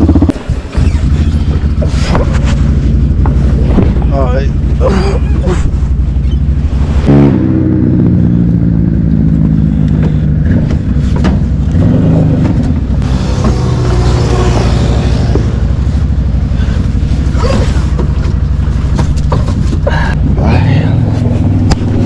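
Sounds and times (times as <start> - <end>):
vehicle engine running and revving: 0.0 - 22.0.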